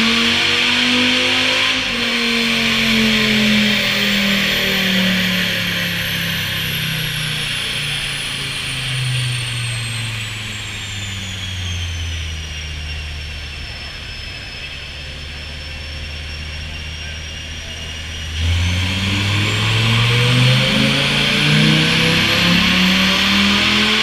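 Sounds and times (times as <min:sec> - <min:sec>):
vehicle engine whining and revving: 0:00.0 - 0:24.0.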